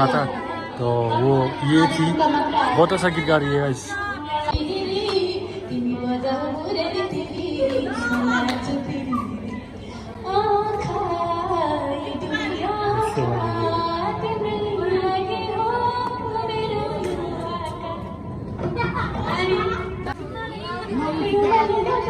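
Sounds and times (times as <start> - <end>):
woman singing: 0.0 - 22.0.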